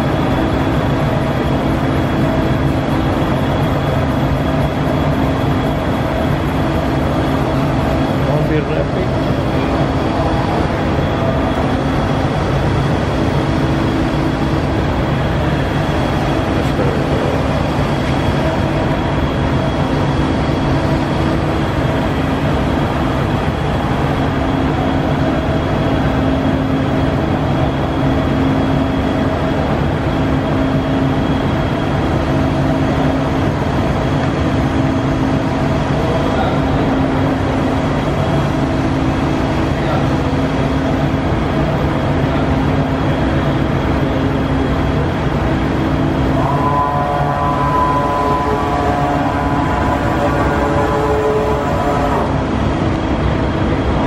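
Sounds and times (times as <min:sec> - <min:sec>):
machine hum with high whine: 0:00.0 - 0:54.0.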